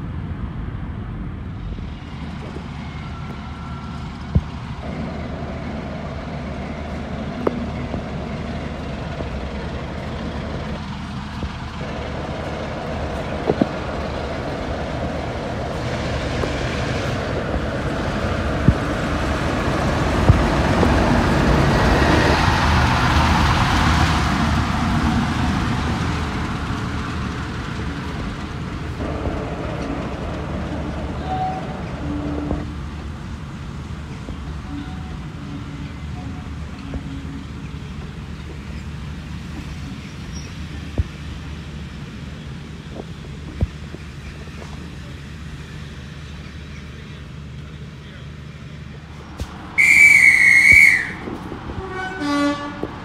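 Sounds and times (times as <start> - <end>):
diesel locomotive engine rumbling: 0.0 - 53.0.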